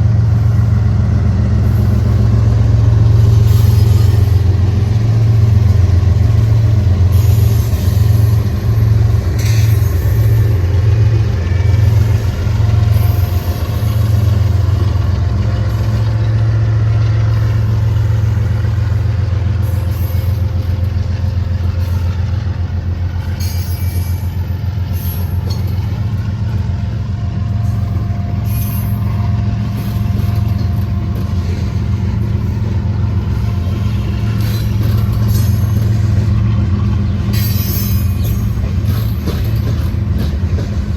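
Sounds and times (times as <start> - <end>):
locomotive engine hum: 0.0 - 40.9
train running noise: 0.0 - 40.9.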